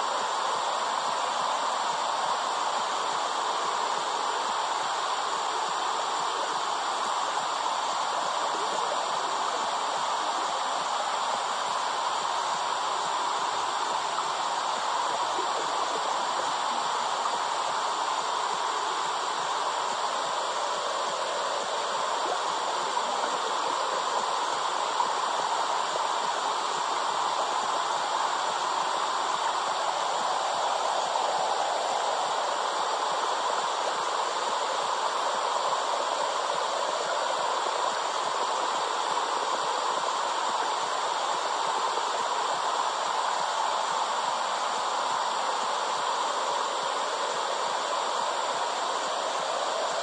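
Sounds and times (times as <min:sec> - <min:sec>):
steady whooshing hiss: 0:00.0 - 0:50.0.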